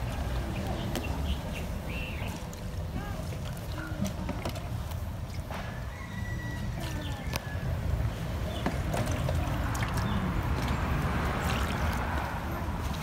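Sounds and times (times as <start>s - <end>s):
water sloshing and trickling: 0.0s - 13.0s.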